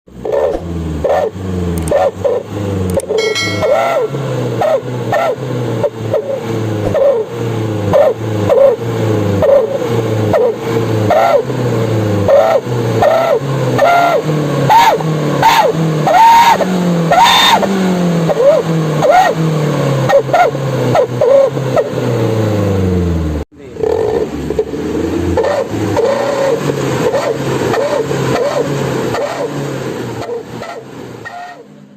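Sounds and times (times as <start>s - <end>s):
engine revving in blips: 0.1s - 3.2s, 4.3s - 31.9s.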